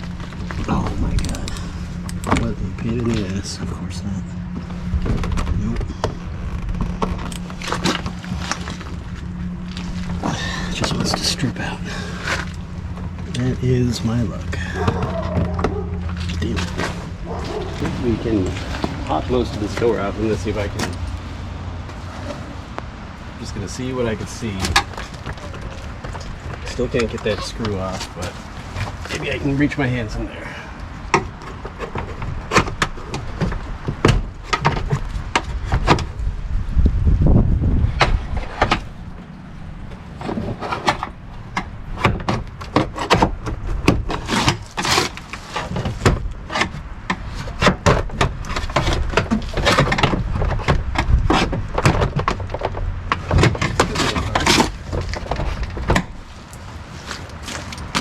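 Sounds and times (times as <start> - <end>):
low rumbling handling noise: 0.0 - 58.0.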